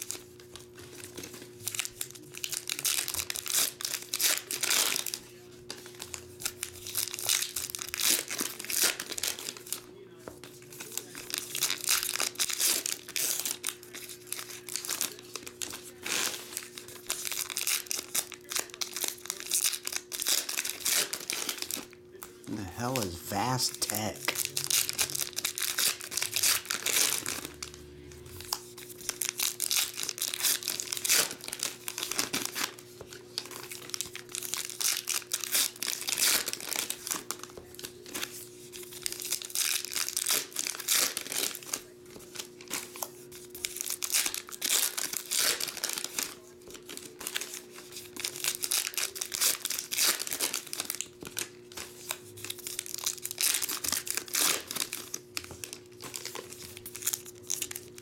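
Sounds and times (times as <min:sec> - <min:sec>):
foil wrappers tearing and crinkling: 0:00.0 - 0:22.3, 0:23.9 - 0:27.8, 0:28.4 - 0:58.0.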